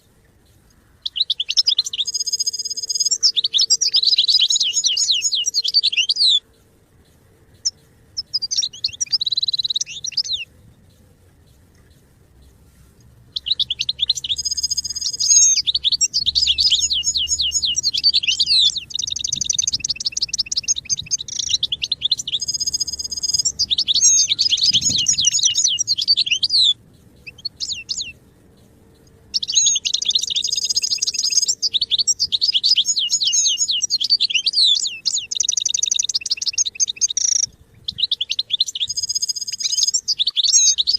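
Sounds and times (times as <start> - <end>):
goldfinch twittering and trilling: 1.0 - 6.4, 8.2 - 10.5, 13.4 - 28.2, 29.3 - 40.9.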